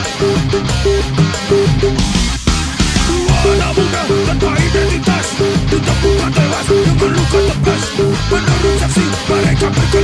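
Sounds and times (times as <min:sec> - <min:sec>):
bass: 0:00.0 - 0:10.0
guitar riff: 0:00.0 - 0:10.0
steady drums: 0:00.0 - 0:10.0.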